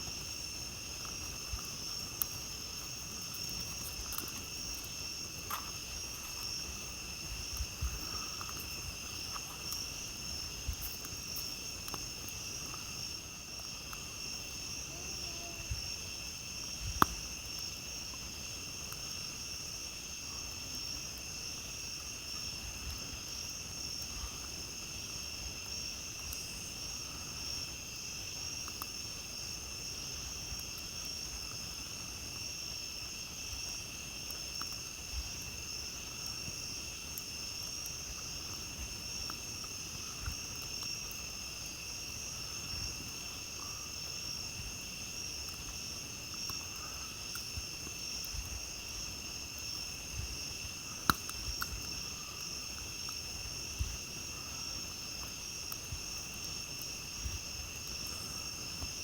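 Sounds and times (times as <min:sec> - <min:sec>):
campfire crackling: 0:00.0 - 0:59.0
night insects trilling: 0:00.0 - 0:59.0.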